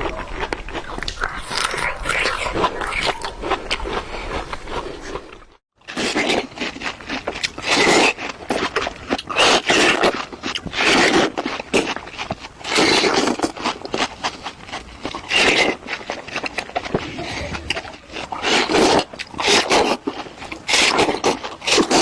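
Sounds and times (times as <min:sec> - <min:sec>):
person chewing fruit: 0:00.0 - 0:22.0.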